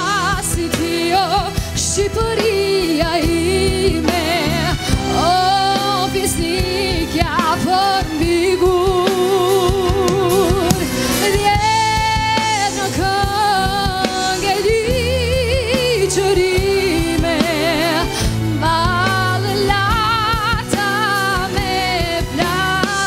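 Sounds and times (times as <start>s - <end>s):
live band playing: 0.0s - 23.0s
woman singing with vibrato: 0.0s - 23.0s.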